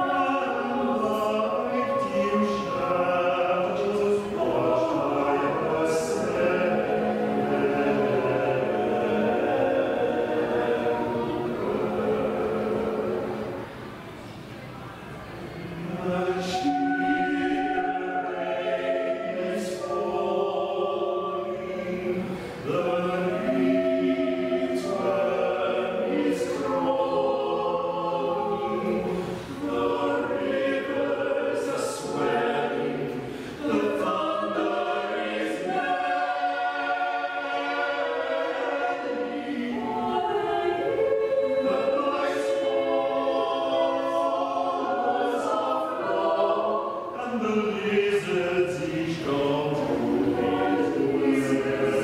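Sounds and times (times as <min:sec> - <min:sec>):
small choir singing: 0:00.0 - 0:52.0.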